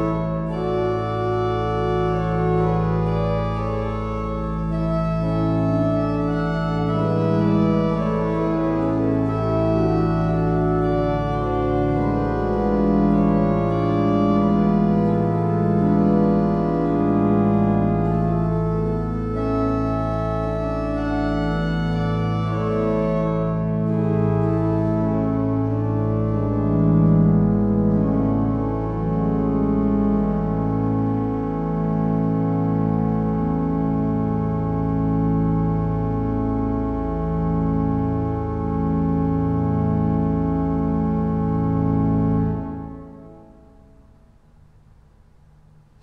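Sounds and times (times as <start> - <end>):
sustained deep organ bass note: 0.0 - 44.5
organ playing slow chords: 0.0 - 46.0.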